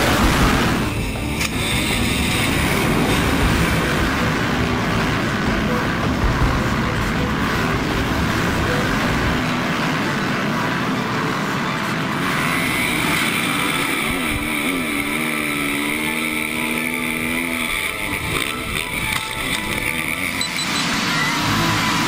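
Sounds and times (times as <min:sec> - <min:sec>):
bike engine revving: 0:00.0 - 0:22.0
motocross bike engines running: 0:00.0 - 0:22.0.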